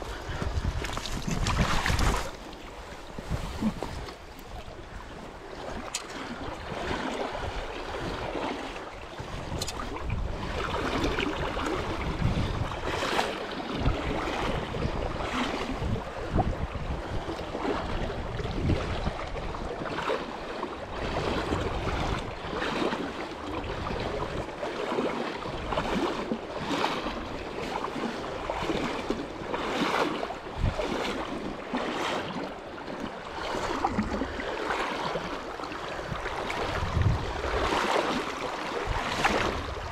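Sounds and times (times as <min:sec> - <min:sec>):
wind buffeting microphone: 0:00.0 - 0:20.0, 0:20.8 - 0:24.6, 0:25.4 - 0:31.6, 0:33.2 - 0:39.9
river water flowing: 0:00.0 - 0:39.9.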